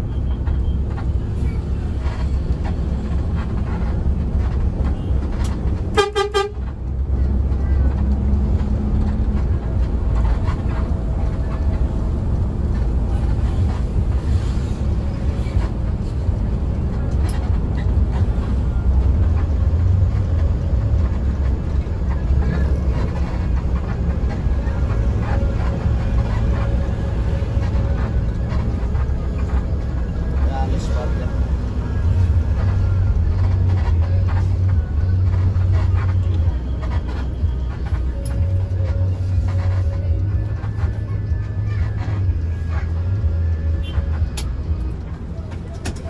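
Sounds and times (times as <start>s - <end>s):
bus engine and road drone: 0.0s - 46.0s.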